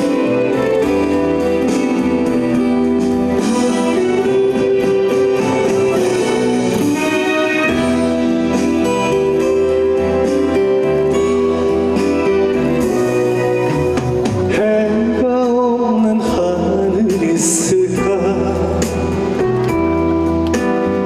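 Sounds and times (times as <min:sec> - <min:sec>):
person singing: 0:00.0 - 0:19.7
trot song over sound system: 0:00.0 - 0:21.0.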